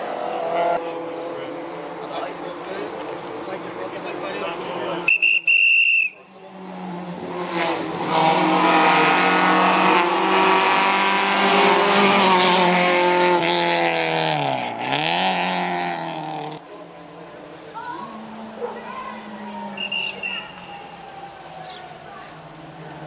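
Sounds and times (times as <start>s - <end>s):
rally car engine at full throttle: 0.0s - 5.1s, 6.3s - 23.0s.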